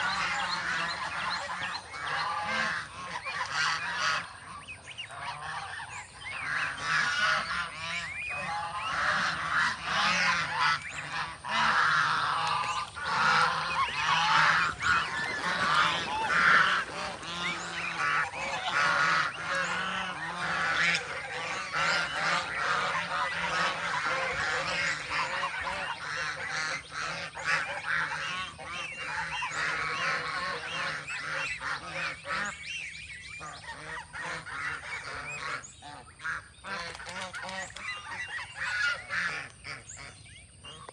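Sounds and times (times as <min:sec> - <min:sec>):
geese honking: 0:00.0 - 0:32.8.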